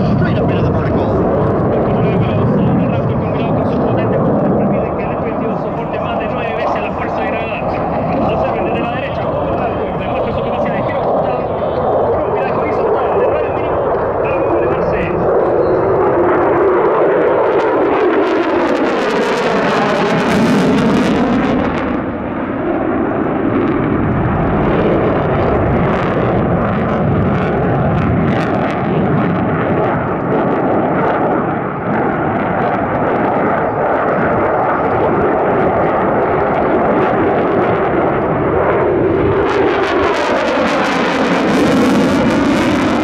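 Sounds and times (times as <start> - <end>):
aircraft engines roaring: 0.0 - 43.0
aircraft passing whoosh: 0.0 - 43.0.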